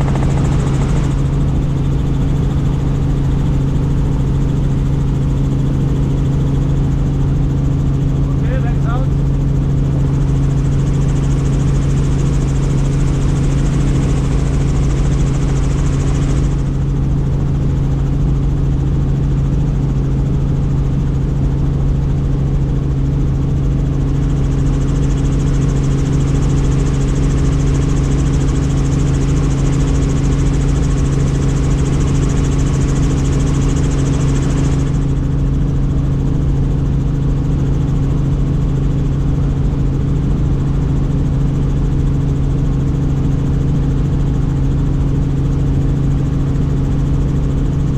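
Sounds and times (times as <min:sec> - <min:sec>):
helicopter engine and rotor drone: 0:00.0 - 0:47.9.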